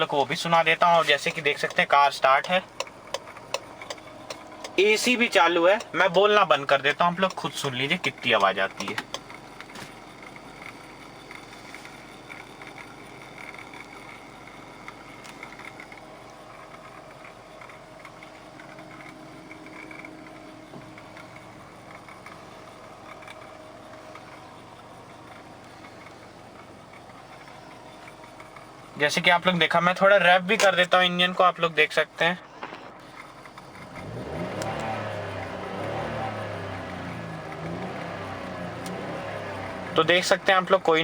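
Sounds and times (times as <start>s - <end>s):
air conditioning running: 0.0s - 41.0s
car engine idling: 0.0s - 41.0s.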